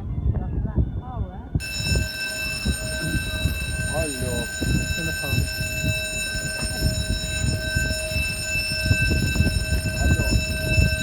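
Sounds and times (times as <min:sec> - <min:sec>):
electronic warning tone: 0:01.6 - 0:11.0.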